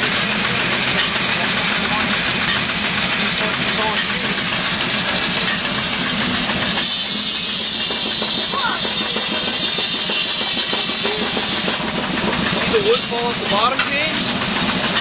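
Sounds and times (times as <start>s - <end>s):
high hissing saw: 0.0s - 14.9s
sawmill machinery knocking: 0.0s - 15.0s.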